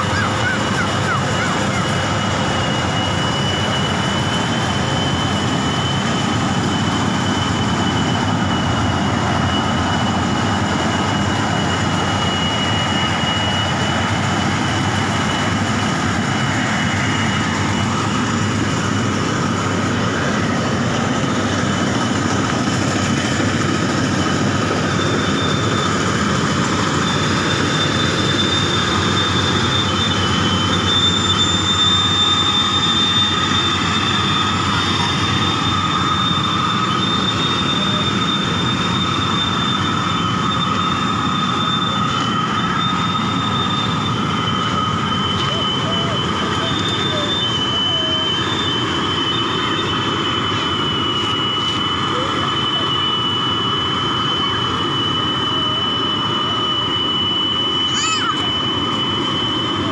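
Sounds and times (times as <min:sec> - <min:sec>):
combine harvester running: 0:00.0 - 0:59.9
thin high whine: 0:00.0 - 0:59.9.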